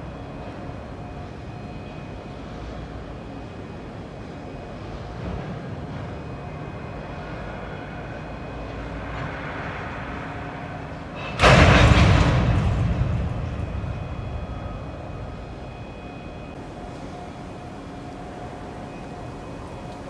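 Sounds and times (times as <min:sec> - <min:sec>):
loud rush of train passing: 0:00.0 - 0:20.0
train rumble: 0:00.0 - 0:20.0.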